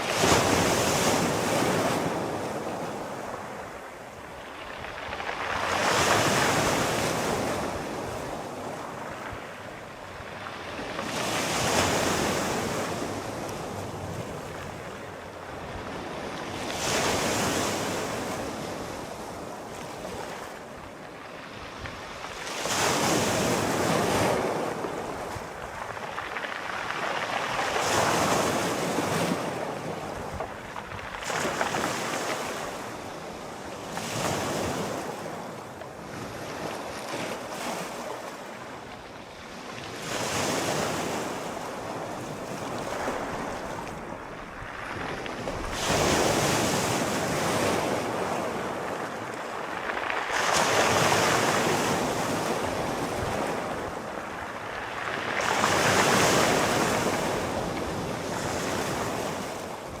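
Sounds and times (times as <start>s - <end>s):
sea waves breaking on shore: 0.0s - 60.0s.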